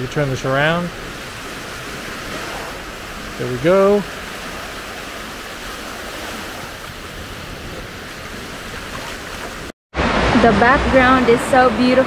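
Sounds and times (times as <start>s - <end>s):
ocean waves washing on beach: 0.0s - 12.0s.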